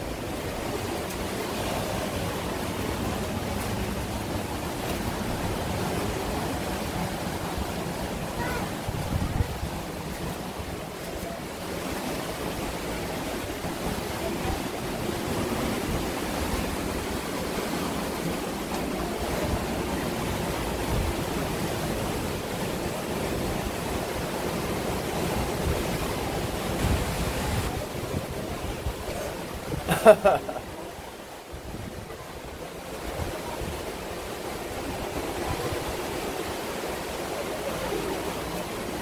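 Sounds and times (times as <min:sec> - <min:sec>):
sea surf washing over rocks: 0:00.0 - 0:39.0.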